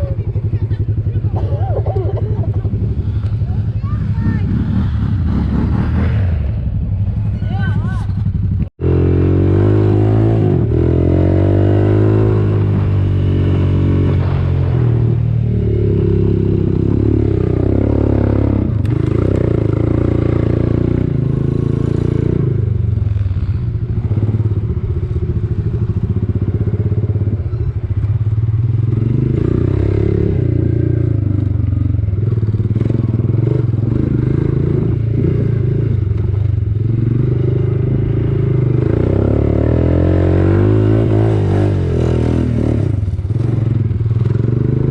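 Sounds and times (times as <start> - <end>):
quad bike engine revving: 0.0 - 7.1, 8.8 - 44.9.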